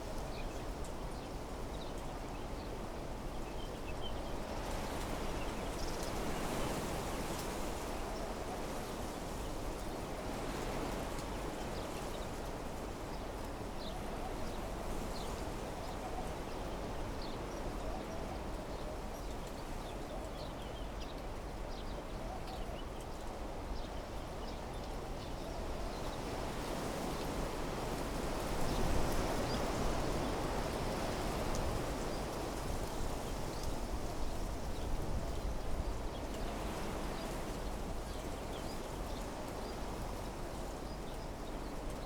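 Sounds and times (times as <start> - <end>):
wind rushing through trees: 0.0 - 42.0.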